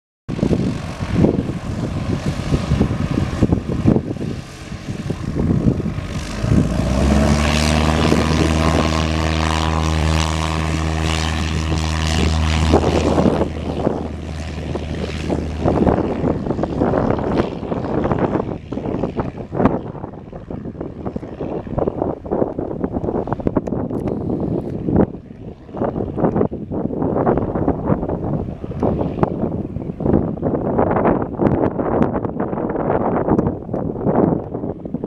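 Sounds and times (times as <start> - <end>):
small plane engine droning: 0.3 - 35.0
wind buffeting microphone: 0.3 - 35.0.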